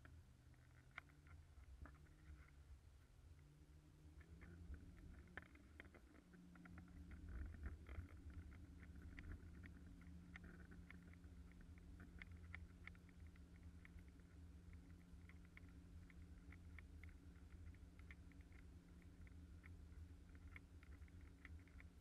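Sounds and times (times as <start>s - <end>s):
light ticks: 0.0s - 2.7s, 3.3s - 22.0s.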